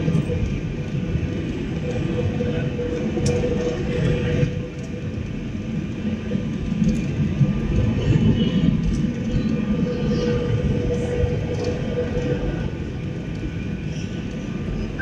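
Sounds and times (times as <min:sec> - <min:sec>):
jet engines and airflow rumble: 0:00.0 - 0:15.0.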